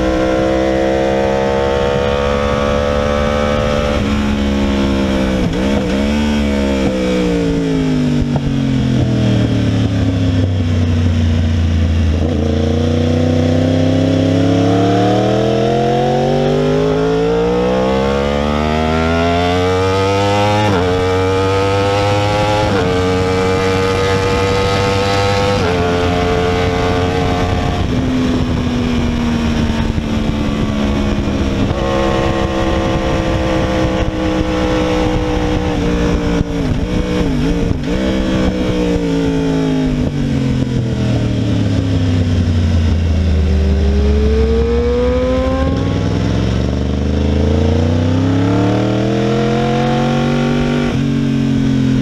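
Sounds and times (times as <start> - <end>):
motorcycle engine at full throttle: 0.0 - 52.0.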